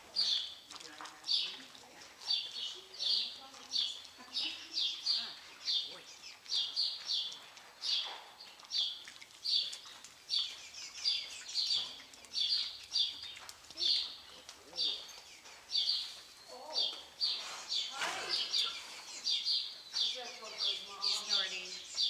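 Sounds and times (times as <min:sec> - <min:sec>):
small bird chirping: 0:02.3 - 0:22.0.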